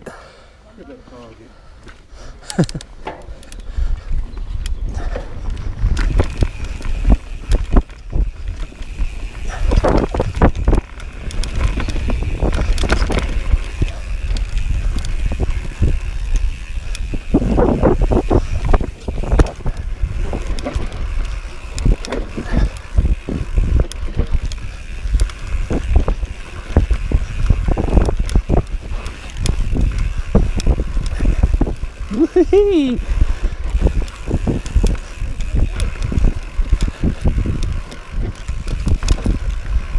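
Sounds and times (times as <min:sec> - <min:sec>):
tyres on dirt: 0:00.8 - 0:39.9
bike knocking and rattling: 0:01.2 - 0:39.9
wind rumble on microphone: 0:03.6 - 0:39.9.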